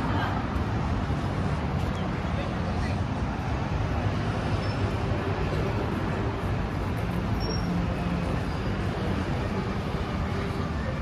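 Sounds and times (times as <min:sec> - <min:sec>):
passing road traffic hum: 0:00.0 - 0:11.0.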